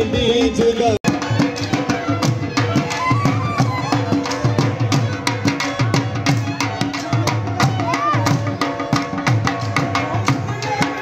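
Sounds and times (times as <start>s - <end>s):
drum beating steady rhythm: 0.0s - 11.0s
folk melody line: 0.0s - 11.0s.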